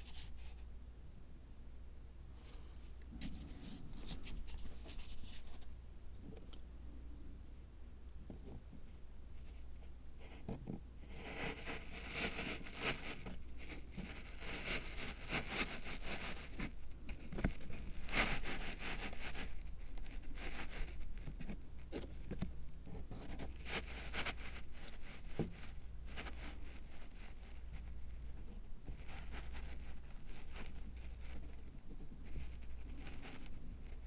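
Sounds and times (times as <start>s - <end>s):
scraping and rustling handwork: 0.0s - 0.6s, 2.4s - 5.7s, 10.3s - 34.0s
low steady hum: 0.0s - 34.0s.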